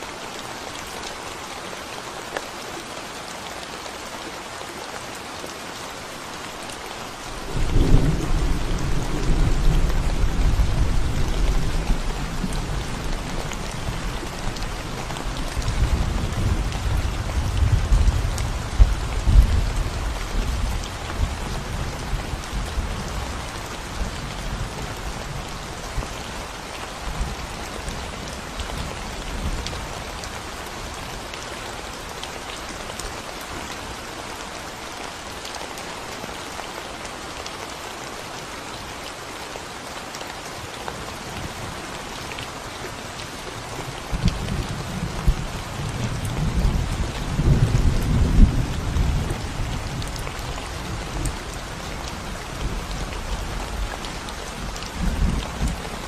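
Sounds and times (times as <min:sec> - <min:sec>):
rain falling on concrete: 0:00.0 - 0:56.0.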